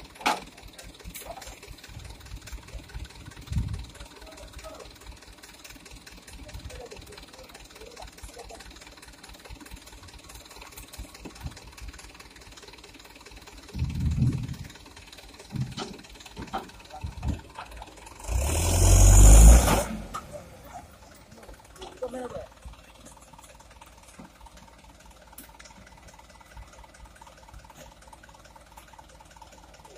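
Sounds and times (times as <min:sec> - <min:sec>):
truck diesel engine idling: 0:00.0 - 0:29.9.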